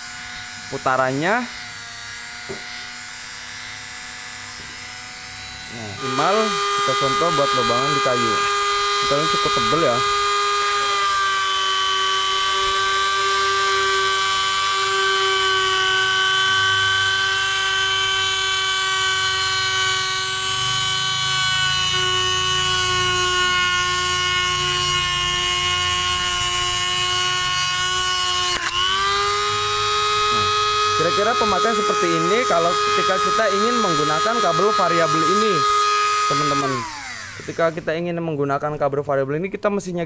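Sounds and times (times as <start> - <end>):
rotary grinder whining: 0.0 - 38.3.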